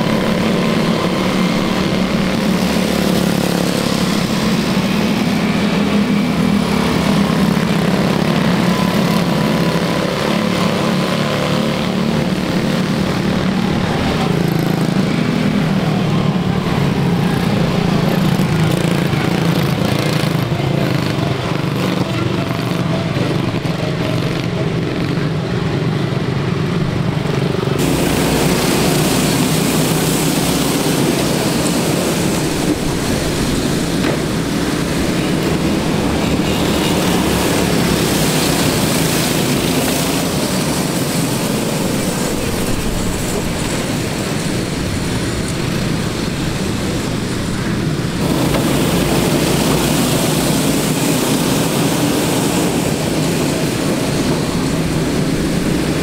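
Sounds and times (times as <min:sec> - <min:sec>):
small race car engines buzzing: 0:00.0 - 0:56.0.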